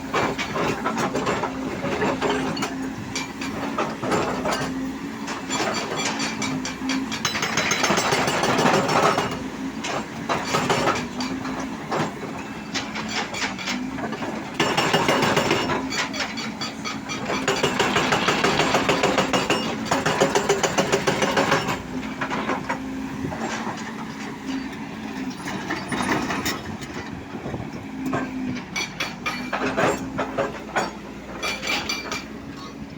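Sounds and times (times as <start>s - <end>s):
excavator engine humming: 0.0s - 32.9s
machine rattling and clanking: 0.1s - 27.2s, 28.1s - 32.6s.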